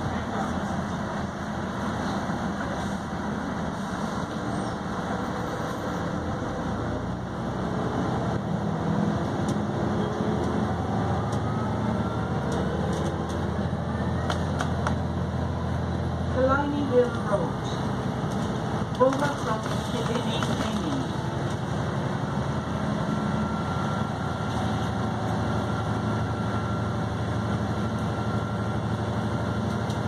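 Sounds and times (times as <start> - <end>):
bus diesel engine from inside: 0.0 - 30.0.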